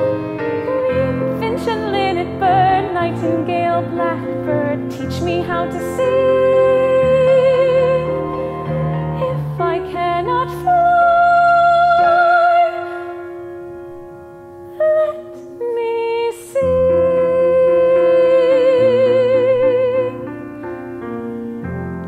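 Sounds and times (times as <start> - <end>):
soprano singing with vibrato: 0.0 - 13.6, 14.7 - 20.4
grand piano: 0.0 - 22.0.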